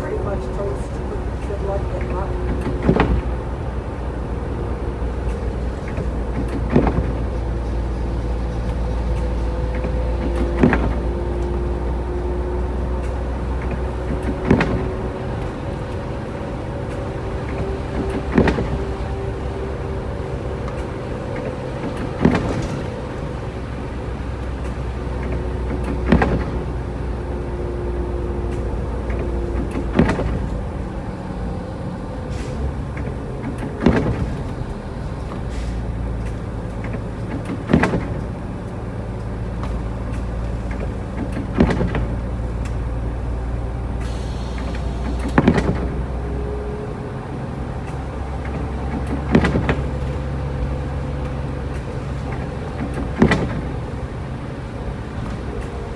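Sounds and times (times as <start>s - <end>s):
car engine and road drone: 0.0s - 55.9s
windshield wipers thumping: 0.0s - 55.9s.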